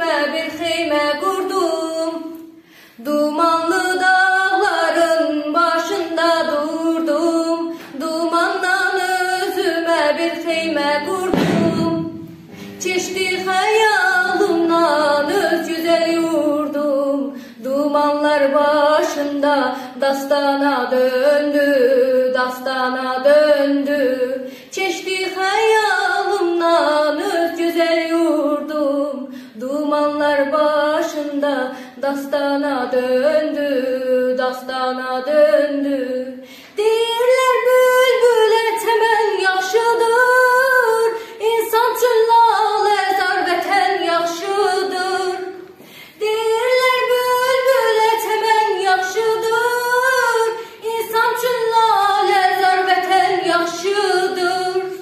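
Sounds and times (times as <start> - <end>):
girl singing: 0.0 - 55.0.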